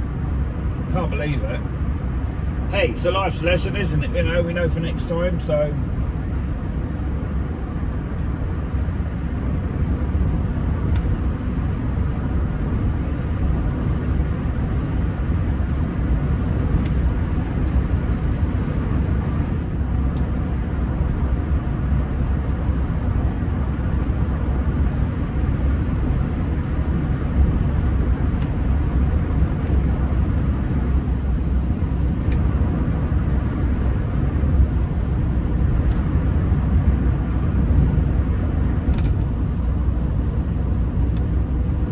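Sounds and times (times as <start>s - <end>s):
car cabin road and engine rumble: 0.0s - 41.9s.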